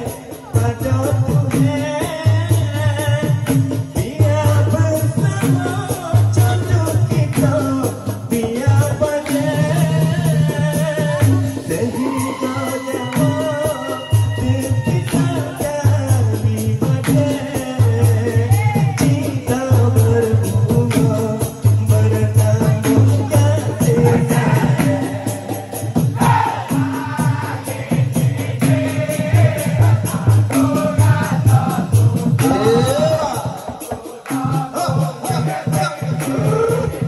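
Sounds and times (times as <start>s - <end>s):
barrel drum: 0.0s - 37.0s
shaken percussion: 0.0s - 37.0s
voices singing and chanting: 0.0s - 37.0s.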